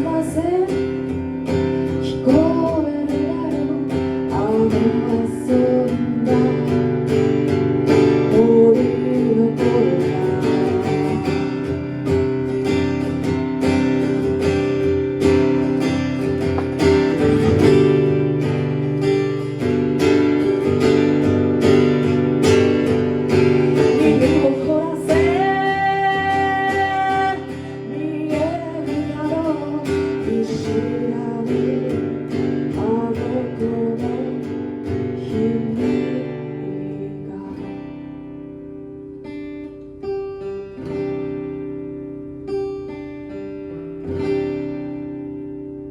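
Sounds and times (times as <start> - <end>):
acoustic guitar strummed: 0.0 - 45.9.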